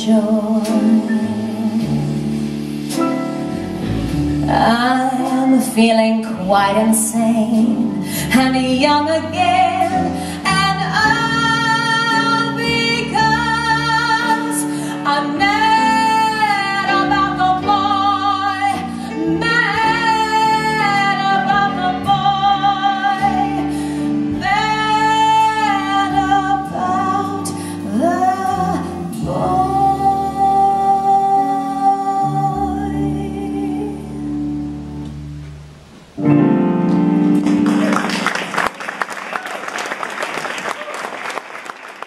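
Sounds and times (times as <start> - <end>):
woman singing a jazz ballad: 0.0 - 35.1
piano bass and drums trio: 0.0 - 38.7.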